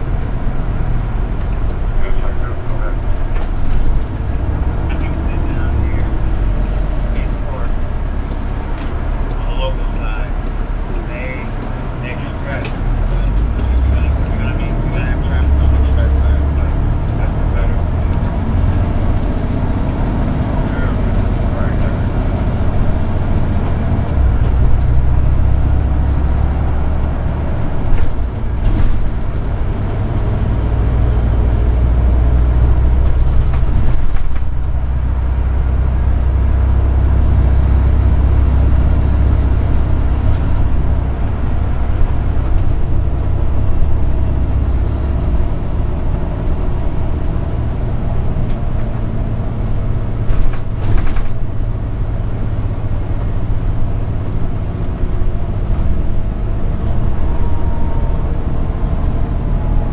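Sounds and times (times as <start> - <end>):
diesel coach engine drone: 0.0 - 59.9.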